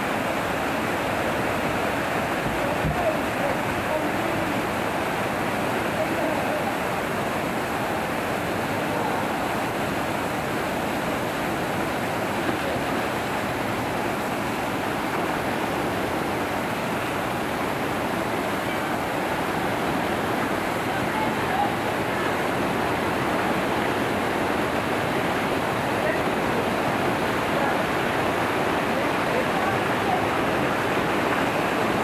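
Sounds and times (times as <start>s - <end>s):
water rushing over a weir: 0.0s - 32.0s.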